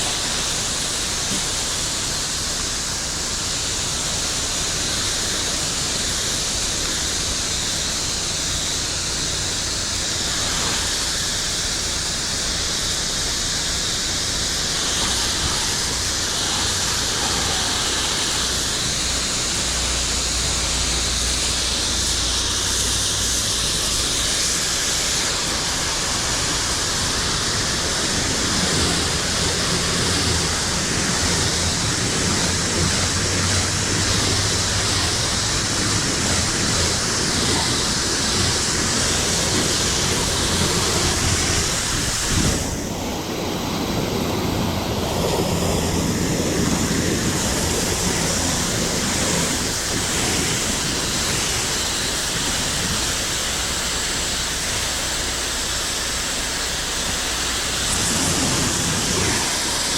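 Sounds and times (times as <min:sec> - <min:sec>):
motor and pump humming: 0:00.0 - 0:59.9
pressure washer water jet hissing: 0:00.0 - 0:59.9.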